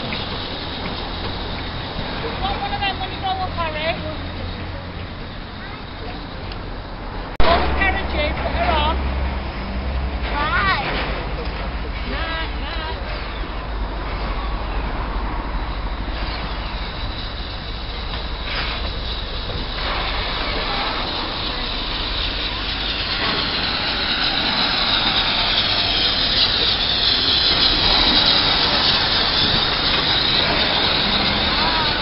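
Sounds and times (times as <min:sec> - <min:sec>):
high hissing: 0:00.0 - 0:10.2, 0:12.2 - 0:32.0
steam locomotive approaching: 0:00.0 - 0:32.0.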